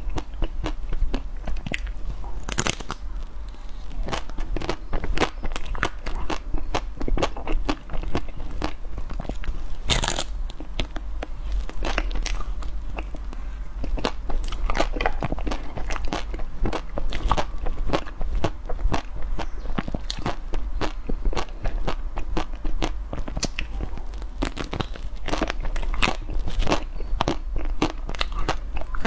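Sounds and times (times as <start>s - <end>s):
crunching ice cream bar coating: 0.0s - 29.0s.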